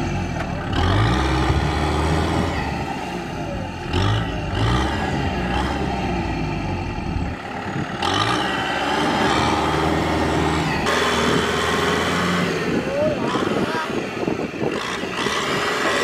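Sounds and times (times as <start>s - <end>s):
tractor diesel engine revving: 0.0s - 16.0s
tyres churning through mud: 0.0s - 16.0s.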